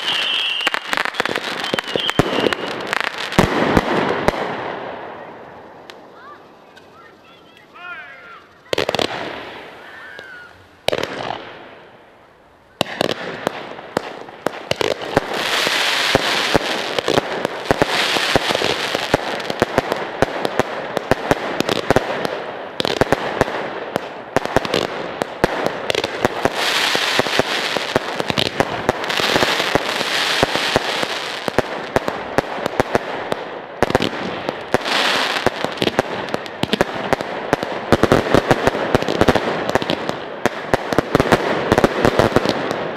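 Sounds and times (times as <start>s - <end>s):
fireworks bangs: 0.0s - 12.1s, 12.7s - 42.9s
fireworks crackling and hissing: 0.0s - 42.9s.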